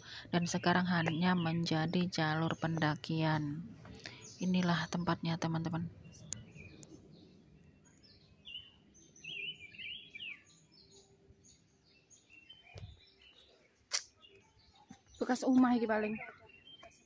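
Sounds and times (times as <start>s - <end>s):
birds chirping and whistling: 0.0s - 17.0s
faint outdoor hush: 0.0s - 17.0s.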